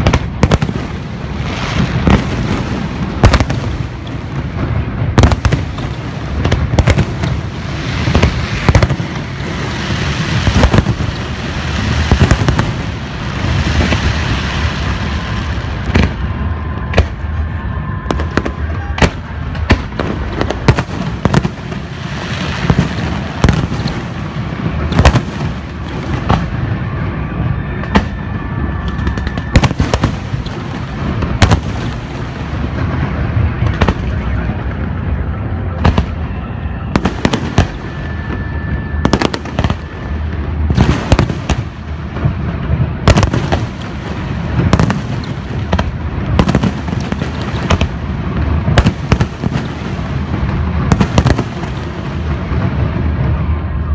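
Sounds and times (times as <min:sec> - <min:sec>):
fireworks rumble and crackle: 0:00.0 - 0:53.9
loud firework bangs: 0:00.0 - 0:53.9.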